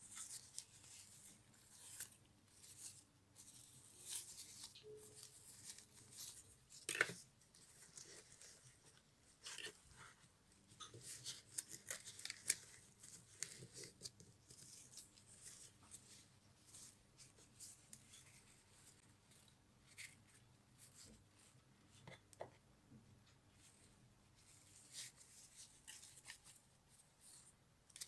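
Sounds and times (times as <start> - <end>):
hands rustling doll clothes: 0.0 - 22.4, 23.3 - 28.0.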